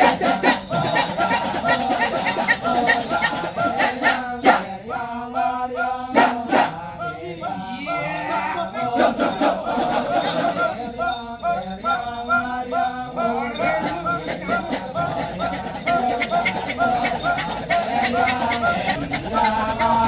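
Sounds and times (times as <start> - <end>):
male chorus chanting: 0.0 - 20.0.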